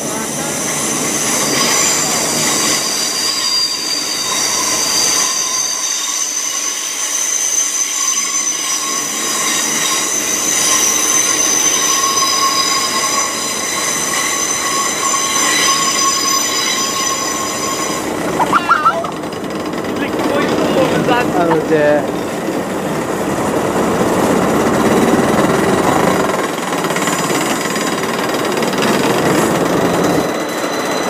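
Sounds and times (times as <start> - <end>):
train rumbling past: 0.0 - 31.0
train squealing: 0.0 - 31.0.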